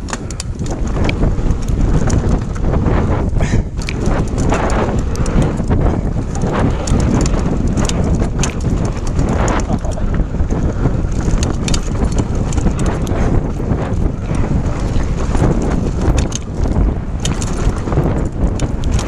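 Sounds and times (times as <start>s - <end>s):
bike rattling over bumps: 0.0s - 19.0s
tyres on dirt: 0.0s - 19.0s
wind on microphone: 0.0s - 19.0s.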